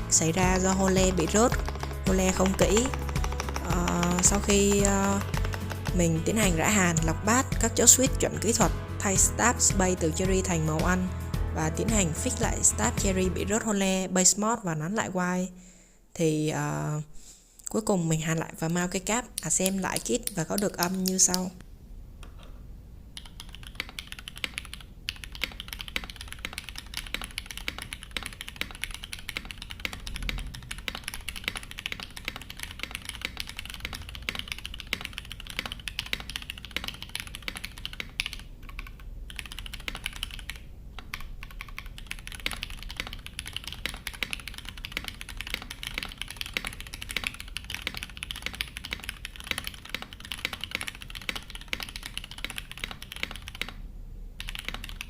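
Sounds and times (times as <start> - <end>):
fast mechanical keyboard typing: 0.0 - 11.1, 19.1 - 21.5, 23.2 - 53.8, 54.4 - 55.0.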